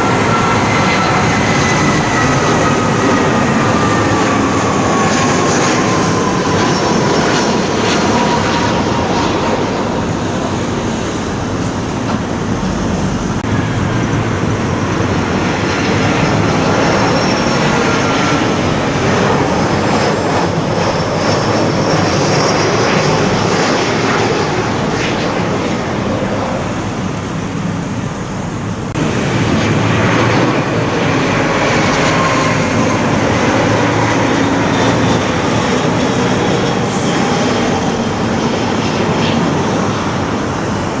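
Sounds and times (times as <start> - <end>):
jet airliner passing overhead: 0.0 - 41.0.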